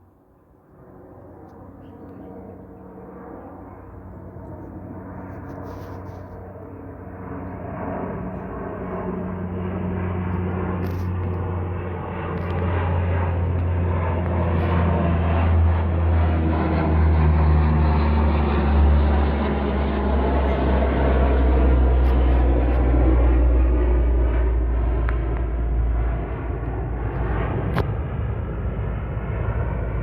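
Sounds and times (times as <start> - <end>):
turboprop aircraft flyby hum: 0.0 - 30.0.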